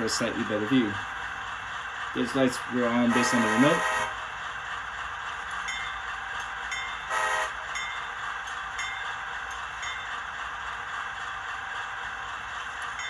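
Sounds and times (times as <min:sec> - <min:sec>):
model locomotive idle hum: 0:00.0 - 0:13.0.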